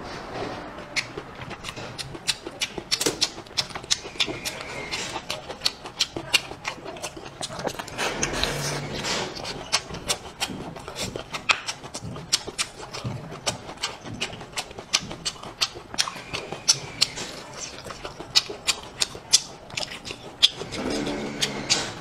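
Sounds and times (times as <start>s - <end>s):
person chewing with wet smacking: 0.8s - 22.0s.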